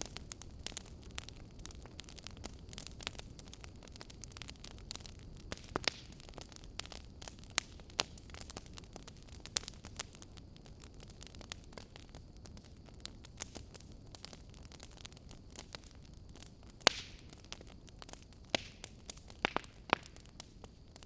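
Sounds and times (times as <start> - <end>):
low steady hiss: 0.0 - 21.0
wood fire crackling and popping: 0.0 - 21.0.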